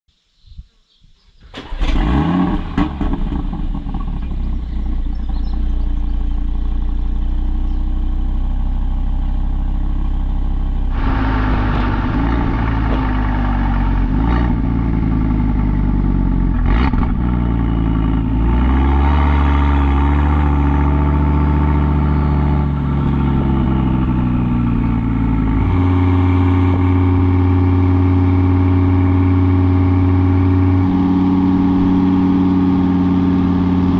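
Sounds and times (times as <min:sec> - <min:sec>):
car engine idling and pulling away: 0:01.4 - 0:33.9.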